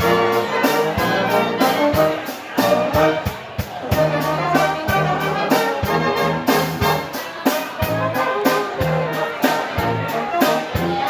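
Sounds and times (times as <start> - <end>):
steady drum beat: 0.0 - 11.0
trumpets and trombones: 0.0 - 11.0
tuba bass notes: 0.0 - 11.0.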